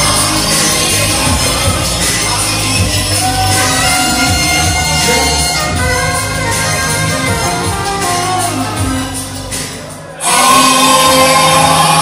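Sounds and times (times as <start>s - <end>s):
loud live concert music: 0.0s - 12.0s.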